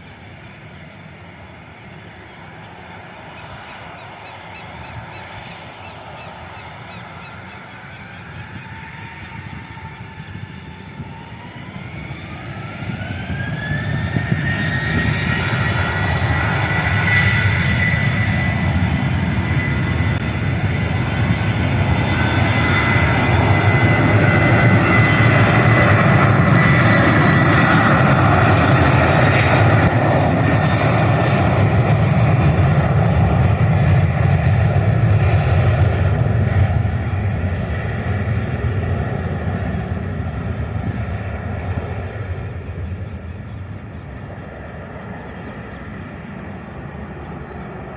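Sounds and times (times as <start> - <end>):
heavy jet engine noise: 0.0 - 47.9
jet engine whine: 0.0 - 47.9.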